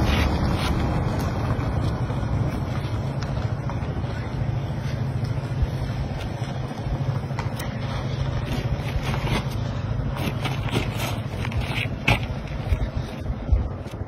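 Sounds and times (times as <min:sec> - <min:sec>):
clothing and boots rustling: 0:00.0 - 0:14.0
steady low rumble: 0:00.0 - 0:14.0.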